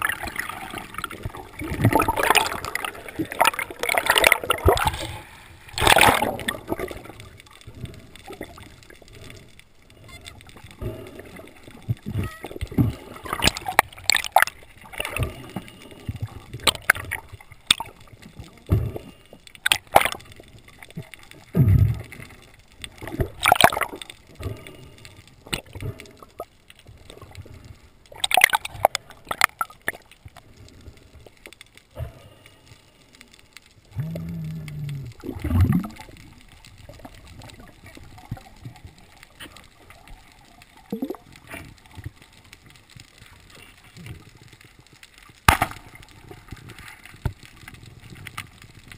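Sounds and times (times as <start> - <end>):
water gurgling and sloshing: 0.0 - 48.9.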